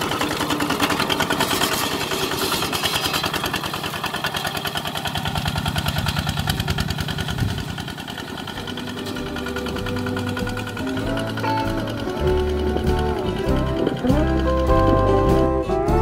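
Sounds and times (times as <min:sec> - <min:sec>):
diesel engine chugging: 0:00.0 - 0:16.0.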